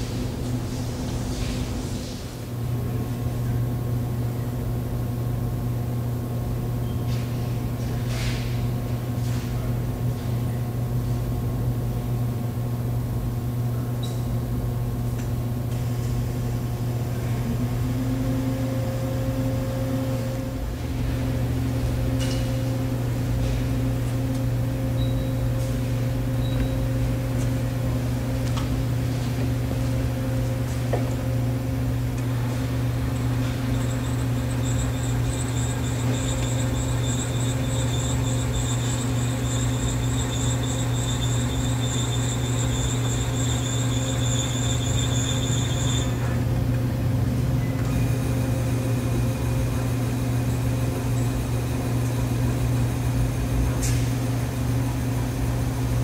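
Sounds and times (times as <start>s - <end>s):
milling machine humming: 9.7s - 56.0s.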